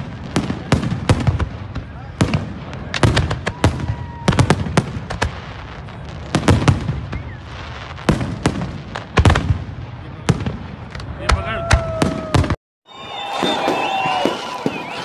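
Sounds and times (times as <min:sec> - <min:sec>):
firework shells bursting with bangs: 0:00.0 - 0:15.0.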